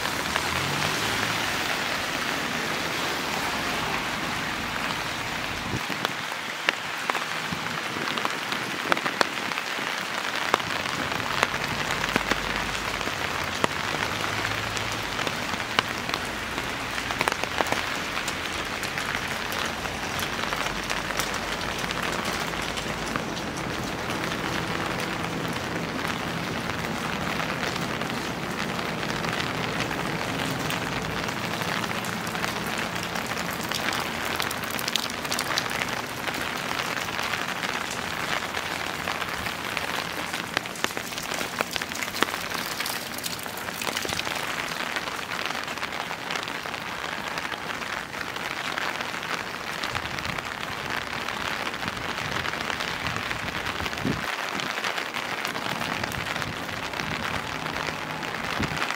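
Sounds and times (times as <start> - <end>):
raindrops ticking: 0.0 - 58.9
steady rain: 0.0 - 58.9.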